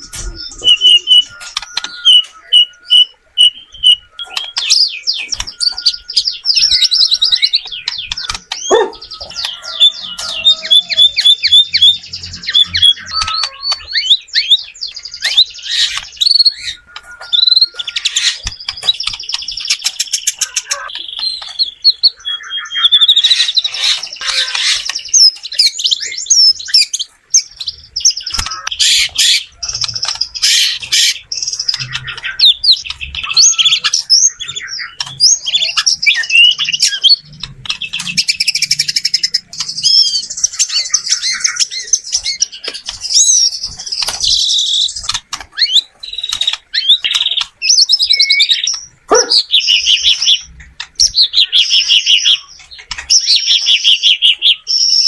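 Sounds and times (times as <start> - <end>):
bird singing whistles and trills: 0.0 - 55.0.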